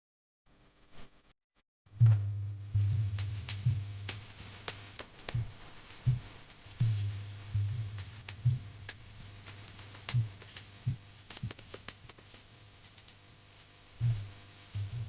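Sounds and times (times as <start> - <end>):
low steady hum: 1.9 - 15.0.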